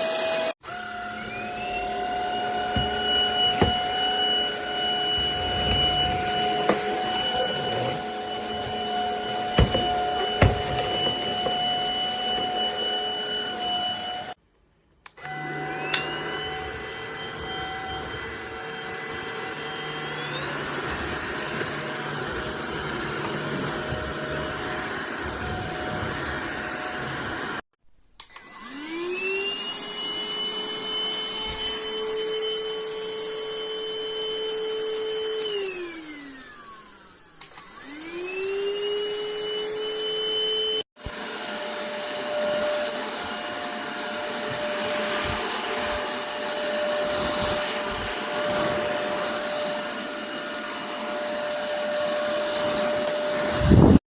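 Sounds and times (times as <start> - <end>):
stick vacuum motor whine: 0.0 - 14.4, 15.0 - 27.6, 28.2 - 54.0.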